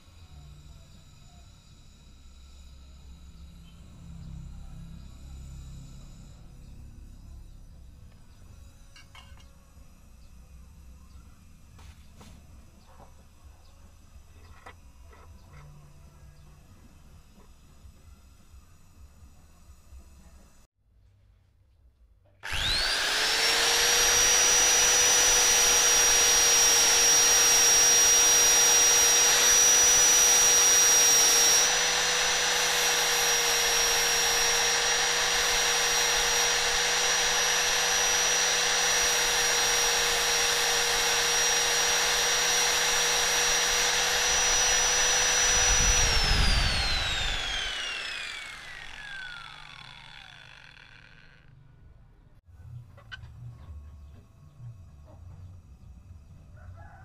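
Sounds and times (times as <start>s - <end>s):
angle grinder whining: 0.0s - 20.7s, 22.4s - 51.8s.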